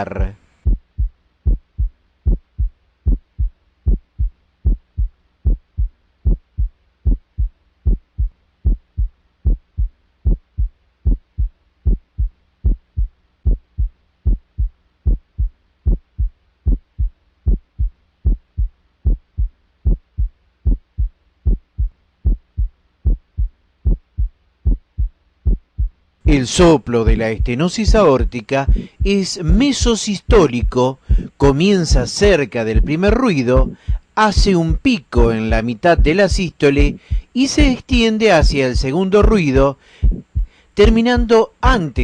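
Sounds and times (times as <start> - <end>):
faint steady hum: 0.0 - 42.0
heartbeat thumps: 0.6 - 42.0.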